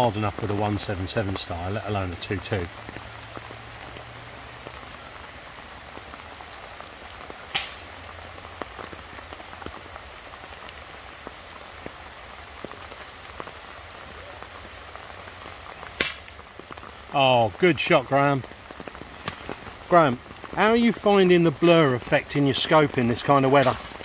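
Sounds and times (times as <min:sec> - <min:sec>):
heavy rain in woodland: 0:00.0 - 0:24.0
raindrops ticking on leaves: 0:00.0 - 0:24.0.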